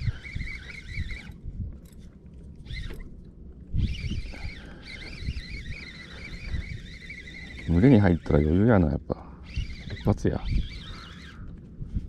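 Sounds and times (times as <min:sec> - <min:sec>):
fishing reel gear whine: 0:00.0 - 0:11.7.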